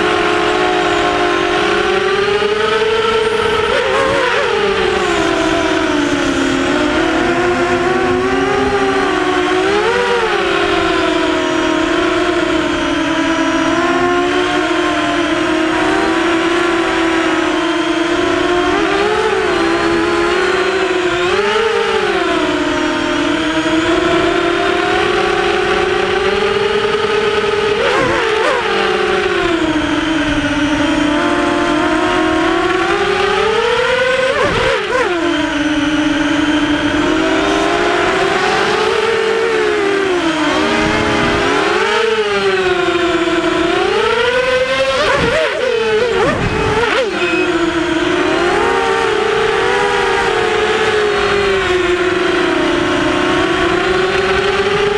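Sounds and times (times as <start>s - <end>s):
quadcopter motors whining: 0.0s - 54.9s.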